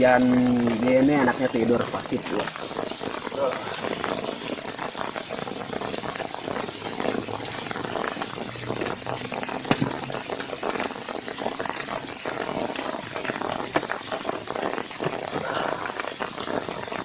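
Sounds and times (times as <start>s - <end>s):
steady high-pitched tone: 0.0s - 17.0s
rain falling: 3.3s - 17.0s.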